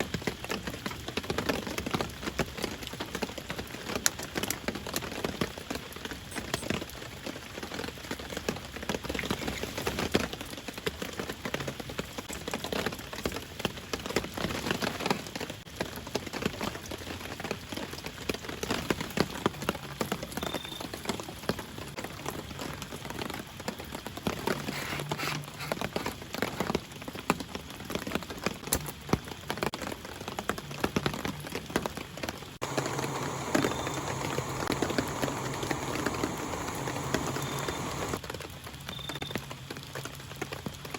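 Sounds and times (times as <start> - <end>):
raindrops striking a surface: 0.0 - 40.9.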